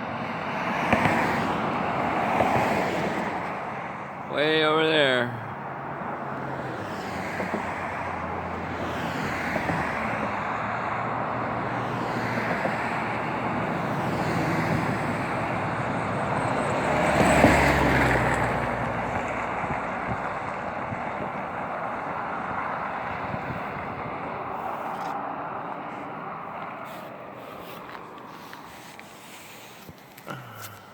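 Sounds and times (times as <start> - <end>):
road traffic noise: 0.0 - 30.9
vehicle passing close: 4.9 - 29.9.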